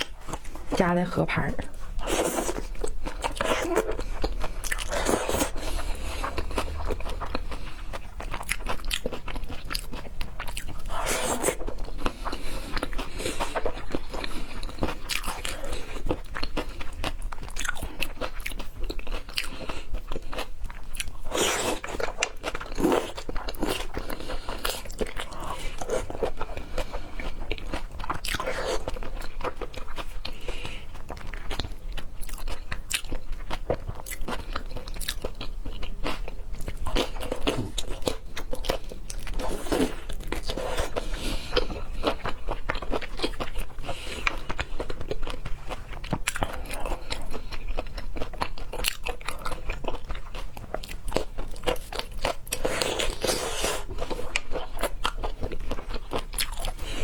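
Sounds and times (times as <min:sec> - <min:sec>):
close chewing with crunchy bites: 0:00.0 - 0:57.0.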